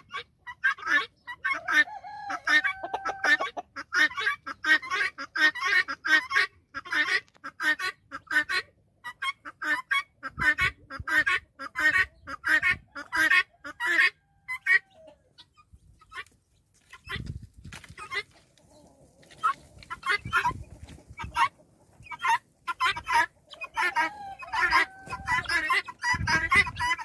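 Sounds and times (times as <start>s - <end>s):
guinea fowl calling: 0.0s - 27.0s.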